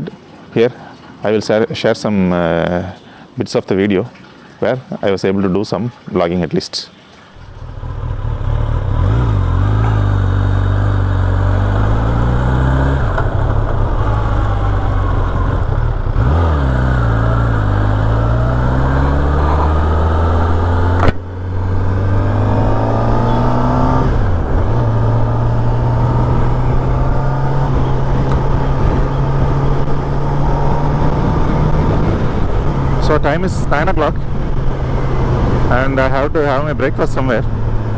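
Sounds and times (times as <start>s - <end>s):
wind and road noise: 7.3s - 37.9s
motorcycle engine running: 7.5s - 37.9s.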